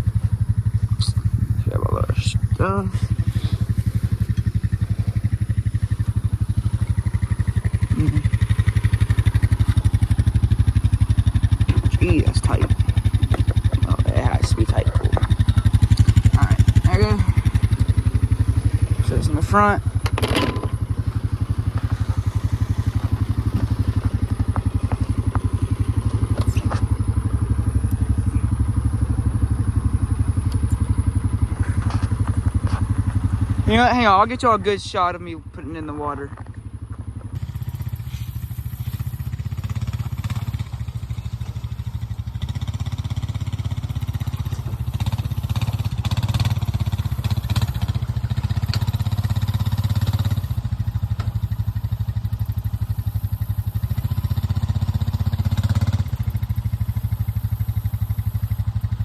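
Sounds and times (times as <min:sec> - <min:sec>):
engine idling with fast chug: 0:00.0 - 0:59.0.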